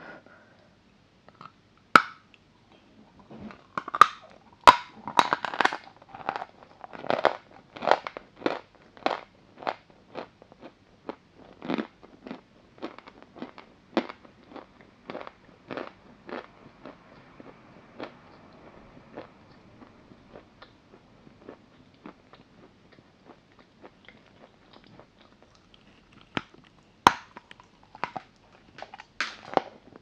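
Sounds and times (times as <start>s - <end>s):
chalk crunching while chewed: 3.6s - 30.0s.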